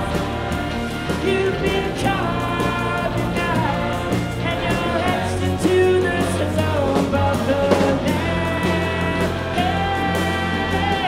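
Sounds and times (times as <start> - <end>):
large choir singing: 0.0 - 11.0
orchestral rock band playing: 0.0 - 11.0.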